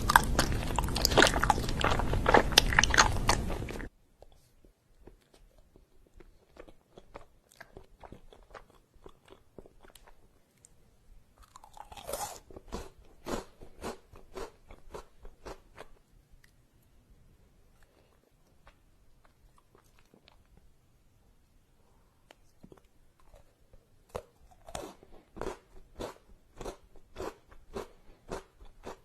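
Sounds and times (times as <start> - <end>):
crunching and chewing crisp food: 0.0 - 16.6, 17.7 - 20.7, 22.4 - 29.0.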